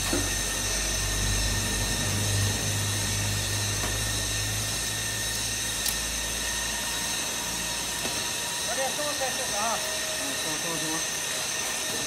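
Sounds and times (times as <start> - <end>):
machinery hiss and high whine: 0.0 - 12.0
machinery low hum: 0.0 - 12.0.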